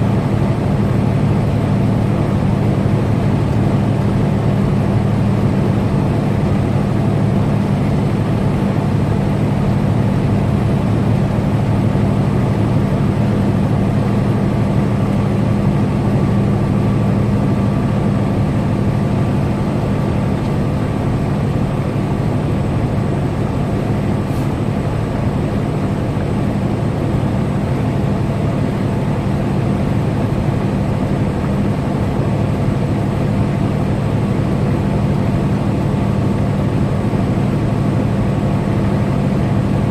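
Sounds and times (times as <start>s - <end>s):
road noise: 0.0s - 39.9s
truck diesel engine drone: 0.0s - 39.9s.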